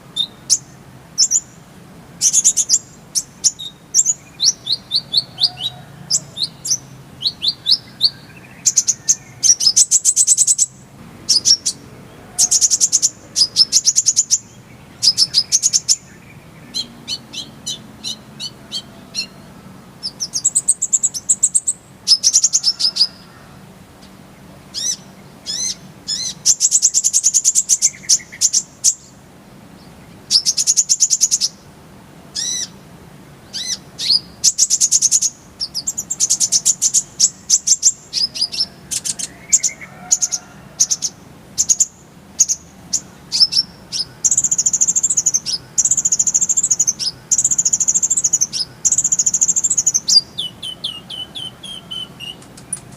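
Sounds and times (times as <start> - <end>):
sunbird singing trills: 0.0 - 31.7, 32.3 - 32.8, 33.4 - 52.9.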